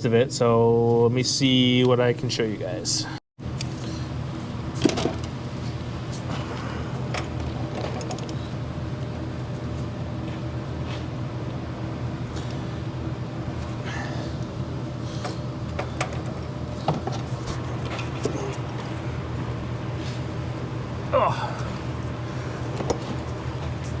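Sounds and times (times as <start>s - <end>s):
machine hum: 2.1s - 24.0s.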